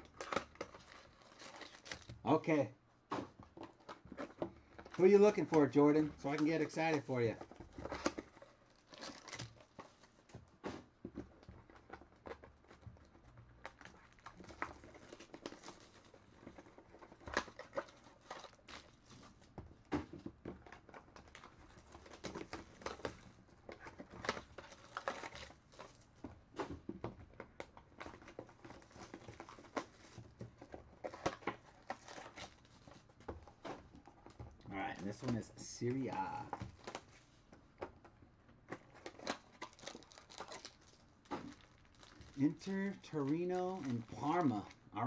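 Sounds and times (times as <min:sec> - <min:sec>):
plastic wrap crinkling: 0:00.0 - 0:02.3, 0:03.4 - 0:19.5, 0:20.5 - 0:26.2, 0:27.2 - 0:38.0, 0:38.6 - 0:45.0.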